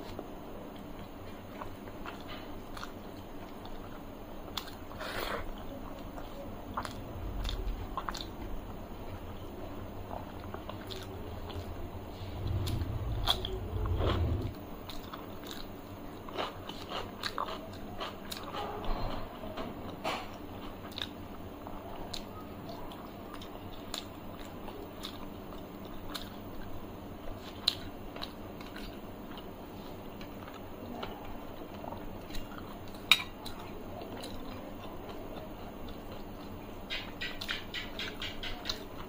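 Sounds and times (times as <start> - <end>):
wet chewing mouth sounds: 0.8 - 8.5, 9.1 - 19.0, 20.2 - 39.0.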